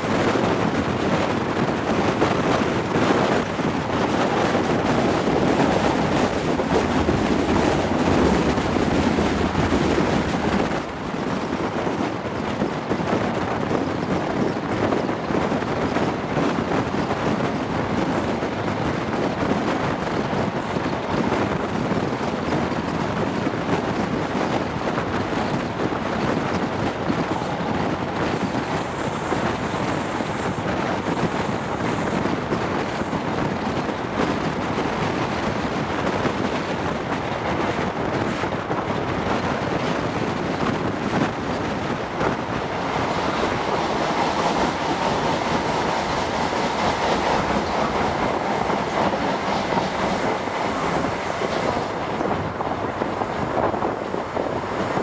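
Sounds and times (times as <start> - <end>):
train running on track: 0.0 - 55.0
wind rushing past train window: 0.0 - 55.0.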